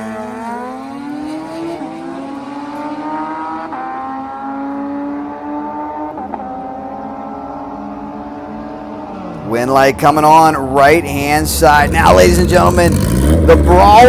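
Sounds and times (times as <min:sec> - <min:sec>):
motorcycles accelerating hard: 0:00.0 - 0:09.6, 0:10.7 - 0:14.0.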